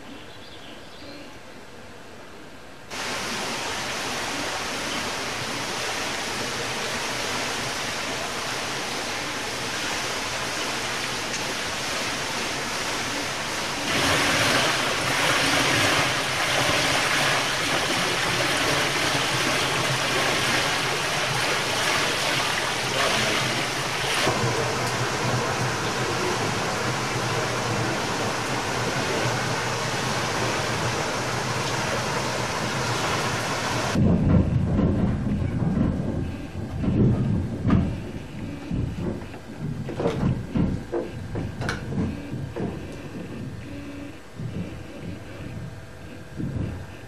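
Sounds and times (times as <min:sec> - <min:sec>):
water rushing through waterwheel: 0:02.9 - 0:43.6.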